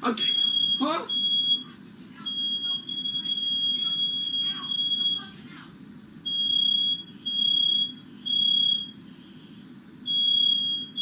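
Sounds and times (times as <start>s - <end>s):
smoke alarm beeping: 0.2s - 5.3s, 6.2s - 11.0s.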